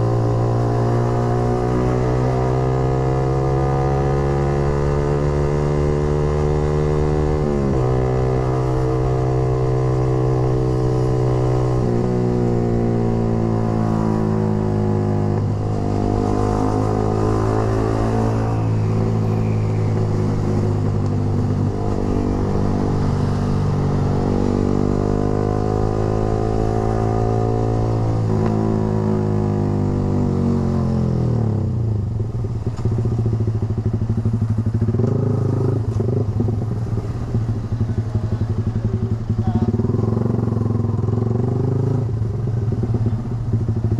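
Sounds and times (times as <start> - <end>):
motorcycle engine while riding: 0.0 - 43.9.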